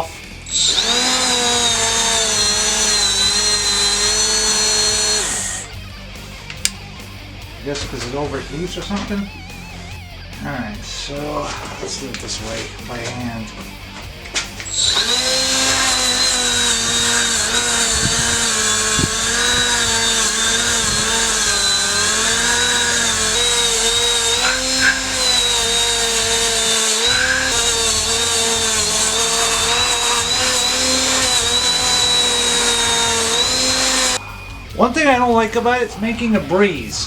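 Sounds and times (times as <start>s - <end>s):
die grinder high whine: 0.0s - 6.8s, 11.1s - 34.2s.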